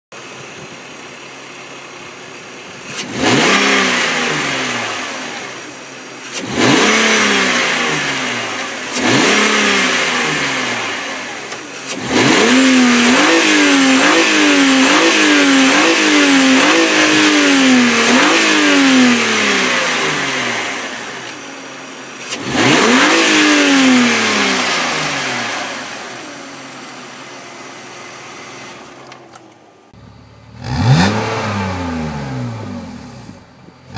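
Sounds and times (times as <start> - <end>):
car engine revving: 2.7 - 29.0, 30.0 - 33.9.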